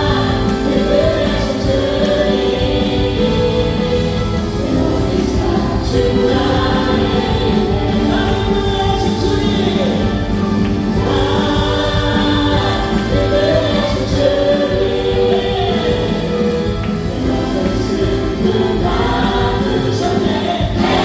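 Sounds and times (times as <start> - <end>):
bass: 0.0 - 21.0
drums: 0.0 - 21.0
electric guitar: 0.0 - 21.0
keyboards: 0.0 - 21.0
many voices singing together: 0.0 - 21.0.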